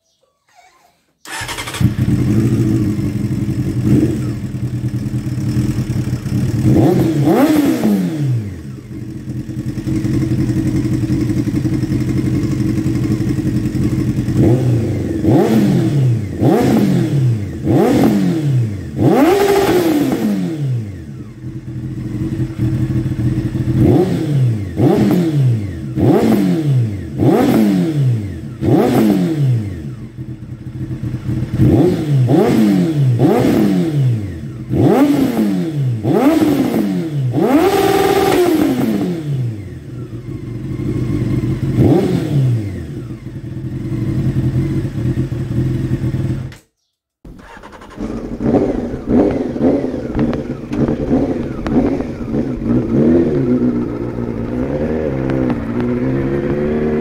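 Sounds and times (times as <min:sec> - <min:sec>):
motorcycle engine revving: 0:01.2 - 0:46.6, 0:47.3 - 0:57.0.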